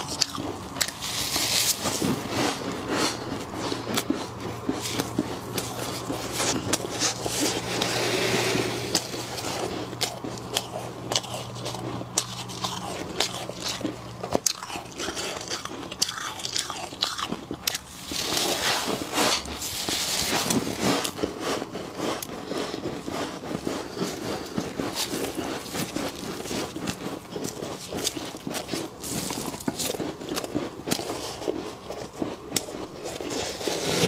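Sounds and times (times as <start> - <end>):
frost crunching and crackling: 0.0 - 34.0
low steady hum: 0.0 - 34.0.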